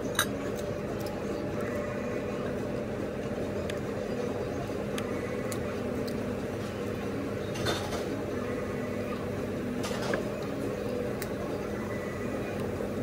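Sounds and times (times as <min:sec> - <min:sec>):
restaurant room hum: 0:00.0 - 0:13.0.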